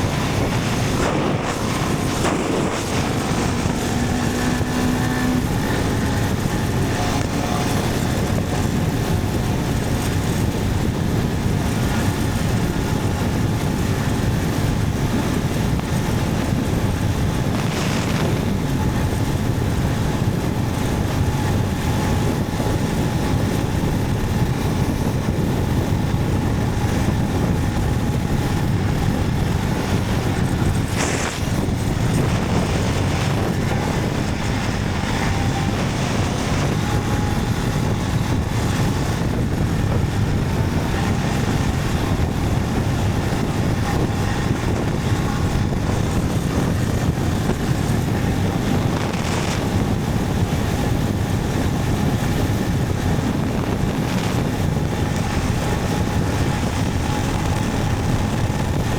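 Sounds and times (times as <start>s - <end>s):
motorcycle engine drone: 0.0s - 58.9s
wind buffeting microphone: 0.0s - 58.9s.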